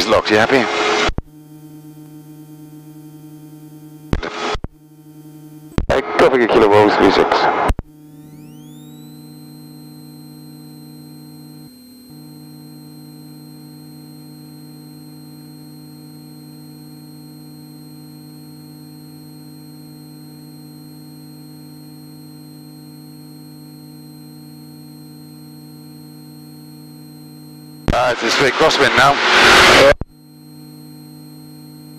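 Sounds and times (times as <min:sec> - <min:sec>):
faint high whine: 0:00.0 - 0:31.9.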